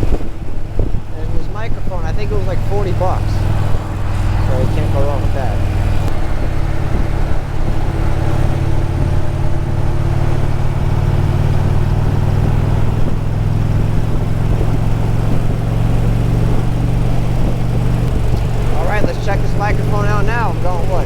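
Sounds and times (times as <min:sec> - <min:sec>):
motorcycle engine cruising: 0:00.0 - 0:21.0
wind rushing: 0:00.0 - 0:21.0.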